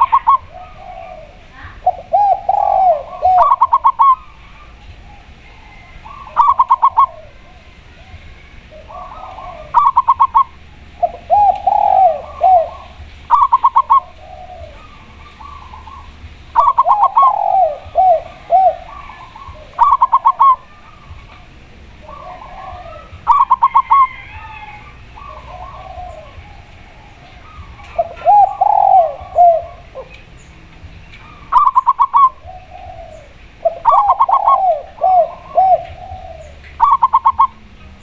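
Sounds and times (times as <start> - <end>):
dove clipped notes: 0.0 - 38.0
dove drooping coos: 0.0 - 38.0.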